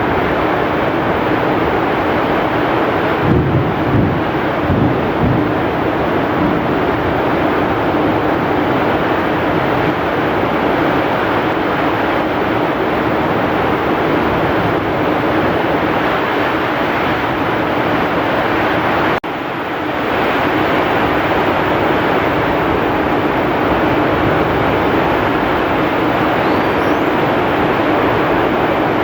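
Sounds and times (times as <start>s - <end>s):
heavy rain pouring: 0.0s - 29.0s
strong wind: 0.0s - 29.0s.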